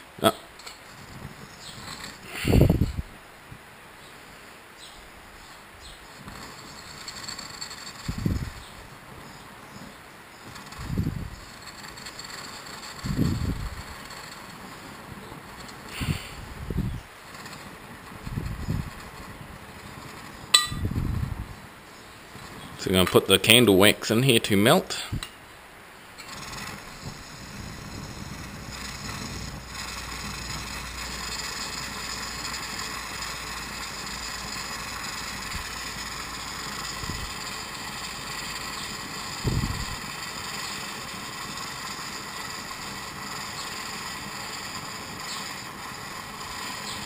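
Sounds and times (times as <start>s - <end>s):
pressure stove burner hissing: 0.6s - 3.2s, 5.4s - 22.8s, 26.1s - 47.0s.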